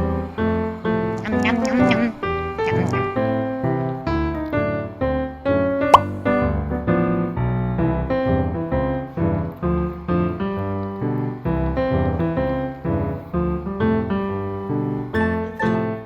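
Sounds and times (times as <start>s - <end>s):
piano background music: 0.0s - 16.0s.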